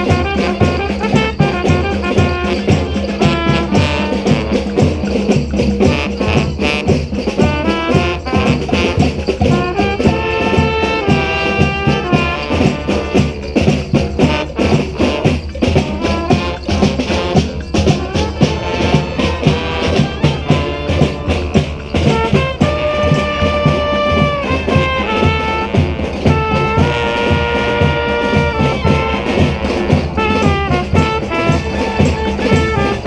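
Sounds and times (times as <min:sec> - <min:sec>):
horns holding notes: 0:00.0 - 0:33.0
percussion fast steady beat: 0:00.0 - 0:33.0
street brass band playing: 0:00.0 - 0:33.0.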